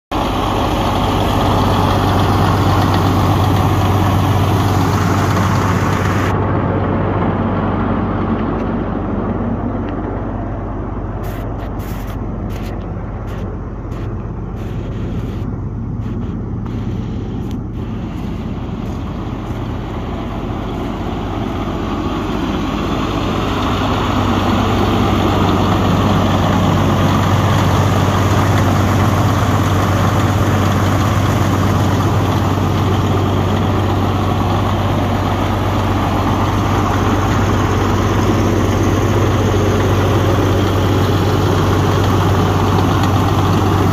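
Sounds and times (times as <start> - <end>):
diesel engine idling: 0.1 - 43.9.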